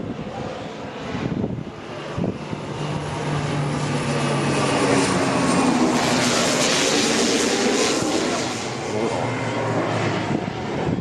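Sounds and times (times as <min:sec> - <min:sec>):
propeller airplane flying by: 0:00.0 - 0:11.0.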